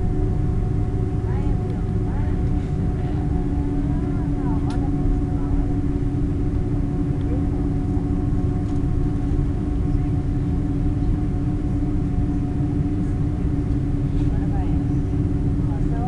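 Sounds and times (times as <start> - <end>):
constant hum: 0.0 - 16.0
jet engines low rumble: 0.0 - 16.0.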